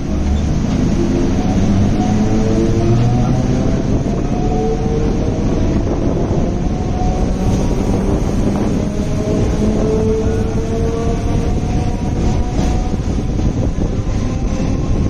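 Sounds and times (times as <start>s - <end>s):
rumble of train wheels on track: 0.0s - 15.0s
wind buffeting microphone: 0.0s - 15.0s.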